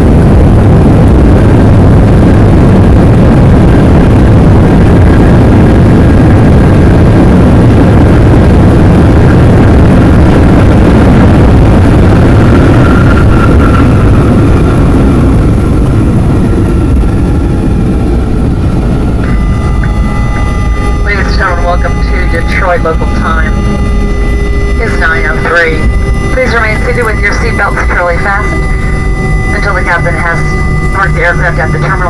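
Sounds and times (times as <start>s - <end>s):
airliner cabin roar during landing: 0.0s - 32.0s.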